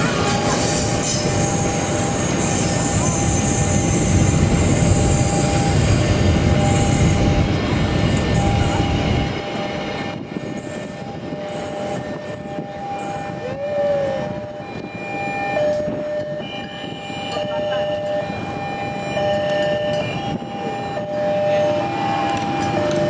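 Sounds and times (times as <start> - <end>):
train carriages rumbling over rails: 0.0 - 23.0.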